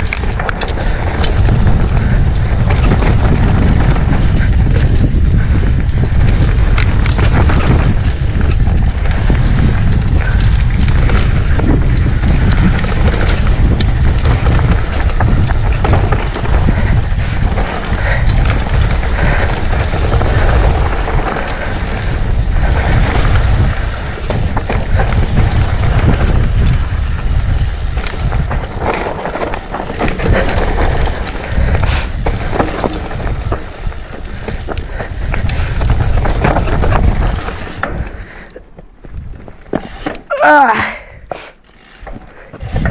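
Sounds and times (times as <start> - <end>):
bike rattling: 0.0 - 42.9
wind buffeting microphone: 0.0 - 42.9
tyres crunching over stones: 5.9 - 40.4.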